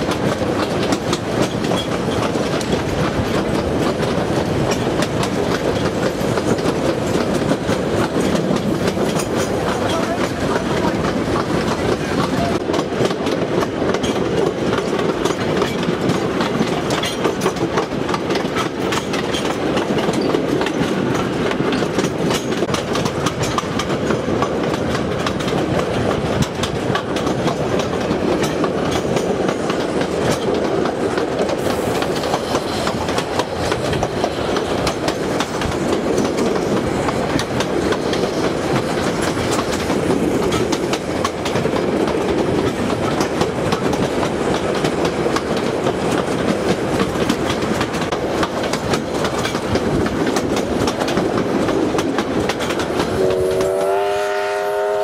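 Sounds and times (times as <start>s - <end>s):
track clicking and clattering: 0.0s - 53.8s
train wheels rumbling on rails: 0.0s - 55.0s.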